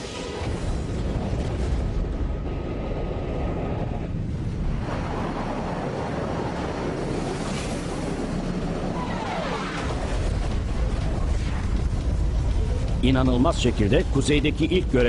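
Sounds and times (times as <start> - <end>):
jet flight roar: 0.0 - 15.0.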